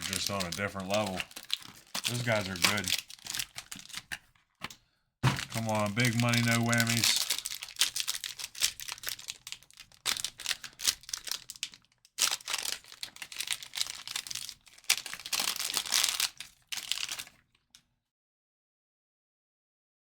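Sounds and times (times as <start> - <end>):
wrapper crinkling and tearing: 0.0 - 4.2, 5.2 - 17.7.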